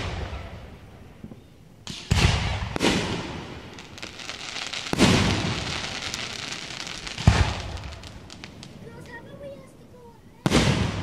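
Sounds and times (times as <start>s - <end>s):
fireworks booms with echoing rumble: 0.0s - 9.6s, 10.3s - 11.0s
fireworks crackles: 0.0s - 11.0s.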